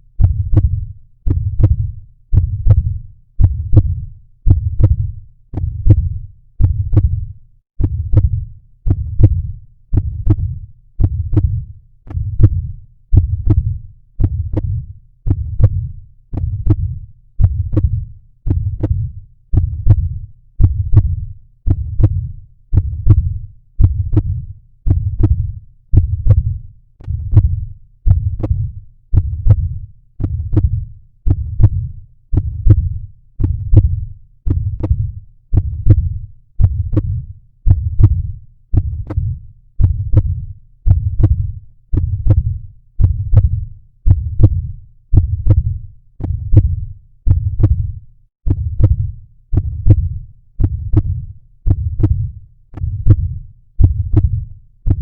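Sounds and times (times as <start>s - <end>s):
heartbeat thumps: 0.2s - 55.0s.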